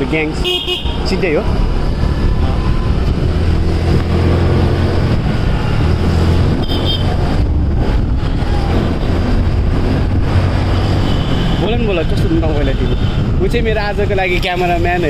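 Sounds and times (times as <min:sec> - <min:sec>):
scooter engine and road noise: 0:00.0 - 0:15.0
wind buffeting microphone: 0:01.4 - 0:14.3.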